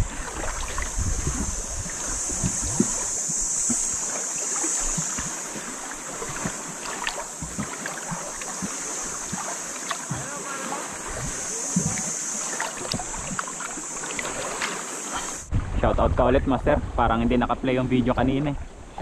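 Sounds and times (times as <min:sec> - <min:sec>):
sea surf on shore: 0:00.0 - 0:19.0
wind: 0:00.0 - 0:19.0.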